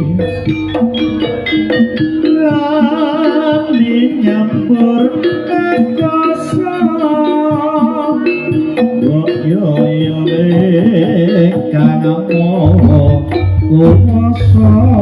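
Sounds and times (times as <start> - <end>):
person singing wavering melody: 0.0 - 15.0
traditional music through speakers: 0.0 - 15.0.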